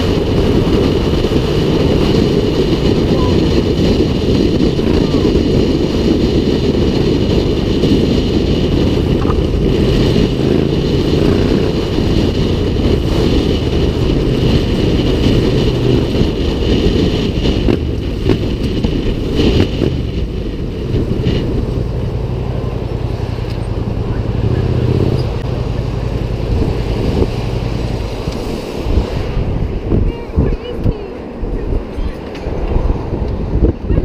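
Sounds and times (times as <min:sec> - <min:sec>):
motorcycle engine running: 0:00.0 - 0:31.6
wind rumble on microphone: 0:00.0 - 0:34.0.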